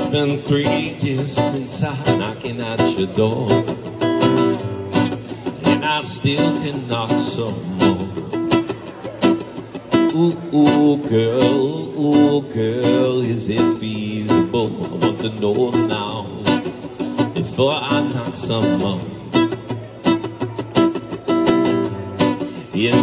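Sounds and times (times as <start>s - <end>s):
guitar music: 0.0s - 23.0s.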